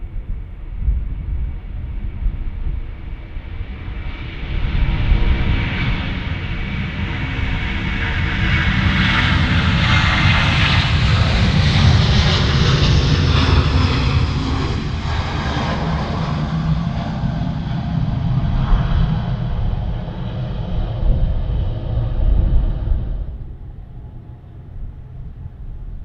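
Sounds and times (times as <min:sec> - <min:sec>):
jet engines passing: 0:00.1 - 0:26.0.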